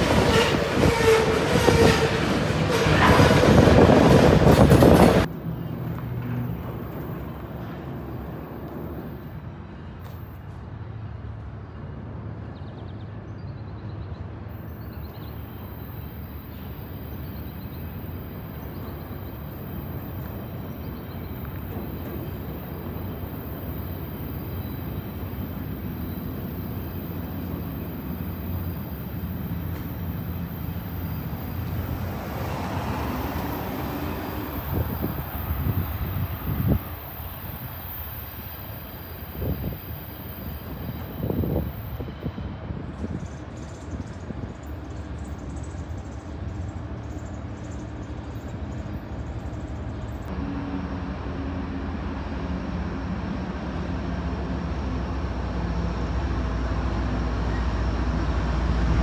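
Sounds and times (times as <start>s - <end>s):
distant train rumble: 0.0s - 12.5s, 14.5s - 59.0s
loud passing train: 0.0s - 59.0s.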